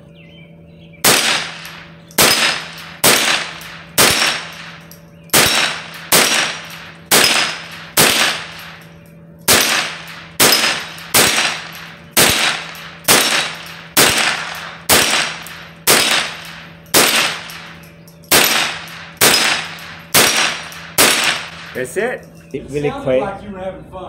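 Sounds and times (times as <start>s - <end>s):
rifle shots: 1.0s - 8.9s, 9.5s - 21.9s
steel plate ringing: 1.4s - 22.4s.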